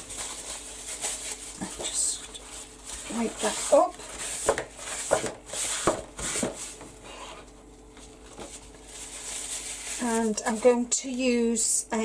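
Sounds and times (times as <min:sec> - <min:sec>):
wiping and rubbing on surface: 0:00.0 - 0:07.5, 0:08.4 - 0:10.7
handling of supplies: 0:00.0 - 0:10.8.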